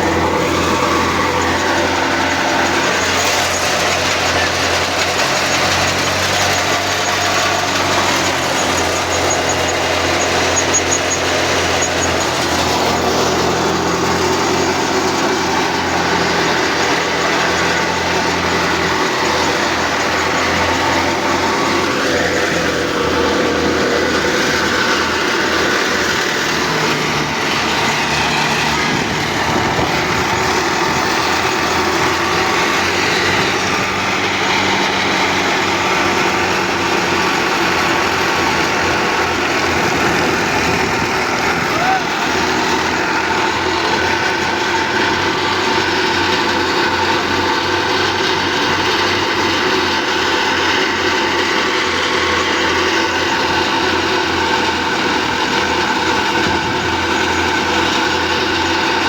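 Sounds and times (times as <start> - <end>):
threshing machine whirring: 0.0 - 59.0
tractor engine running: 0.0 - 59.0.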